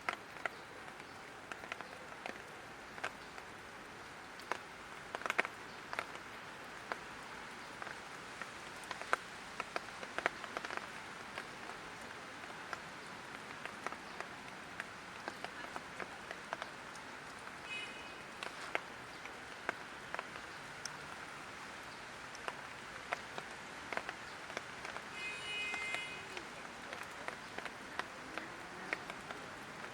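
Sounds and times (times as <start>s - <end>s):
light rain falling: 0.0s - 29.9s.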